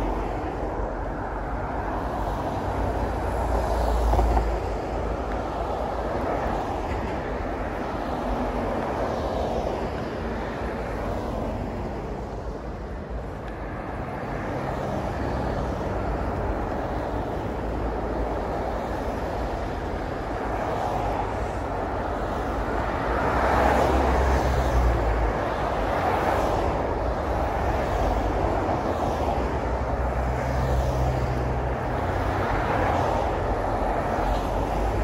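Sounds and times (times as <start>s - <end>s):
cars driving past: 0.0s - 35.0s.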